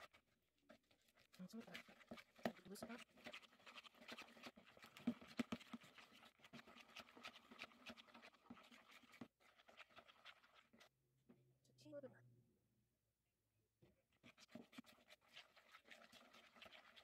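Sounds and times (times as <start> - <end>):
spoon scraping plastic bowl: 0.0 - 10.9, 14.1 - 17.0.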